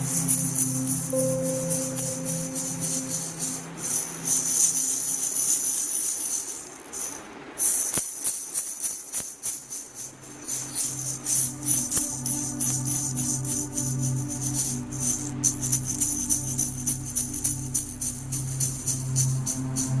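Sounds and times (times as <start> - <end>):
handheld rattle shaken: 0.0 - 20.0
soft music of low held tones: 0.0 - 20.0.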